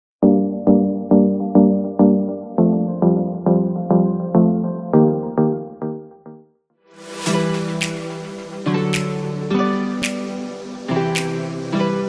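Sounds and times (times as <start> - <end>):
electronic synthesizer music: 0.2 - 12.0.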